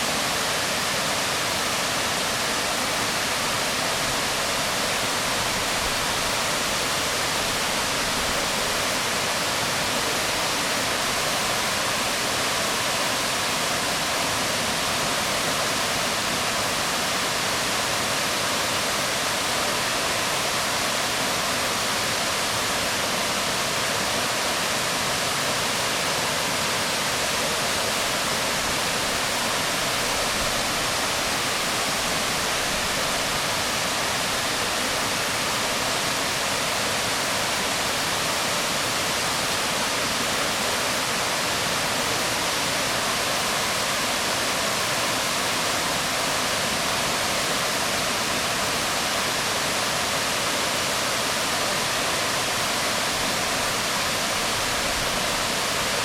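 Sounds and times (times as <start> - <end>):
waterfall rushing onto rocks: 0.0 - 56.0.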